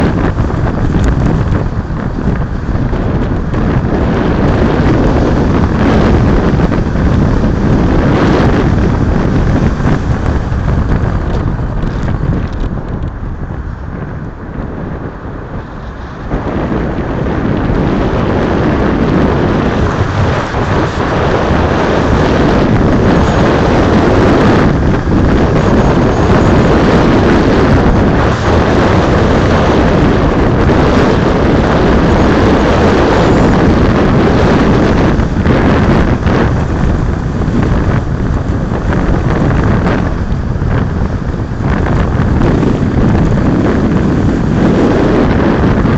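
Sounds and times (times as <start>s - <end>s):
heavy wind buffeting microphone: 0.0s - 45.9s.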